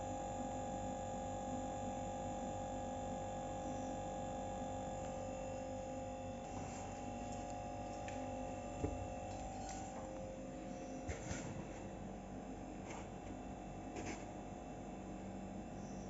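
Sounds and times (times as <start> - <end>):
refrigerator compressor humming: 0.0 - 16.0.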